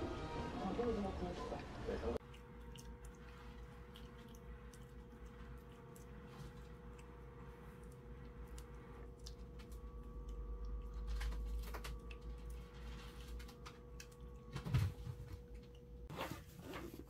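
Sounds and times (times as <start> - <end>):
steady low hum: 0.6 - 16.1.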